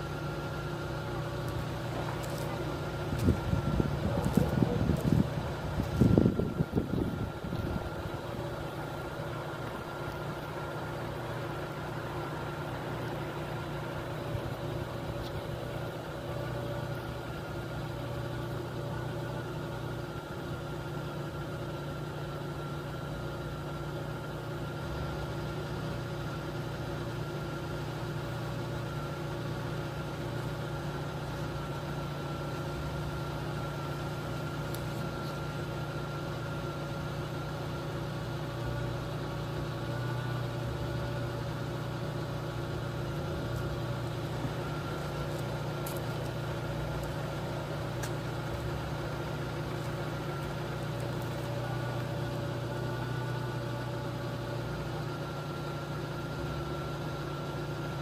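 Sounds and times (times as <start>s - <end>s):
engine-like hum: 0.0s - 58.0s.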